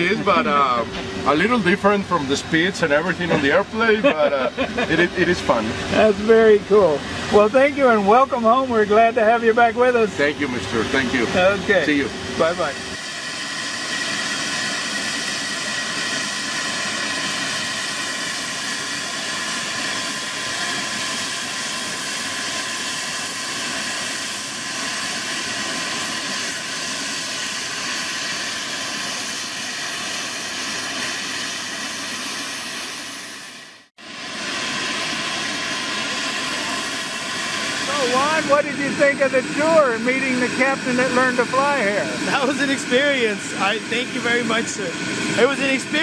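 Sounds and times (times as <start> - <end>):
jet aircraft hiss: 0.0 - 46.0.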